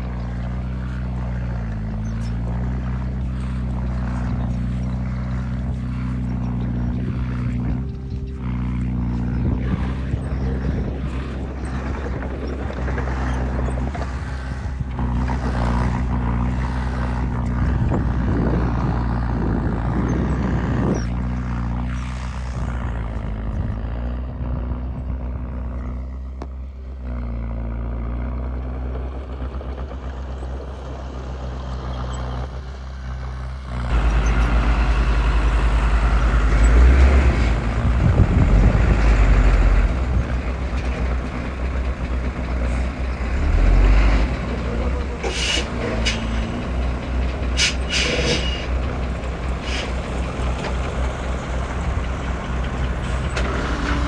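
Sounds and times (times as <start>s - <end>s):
bulldozer diesel engine working: 0.0s - 54.0s
deeper louder engine: 0.0s - 54.0s.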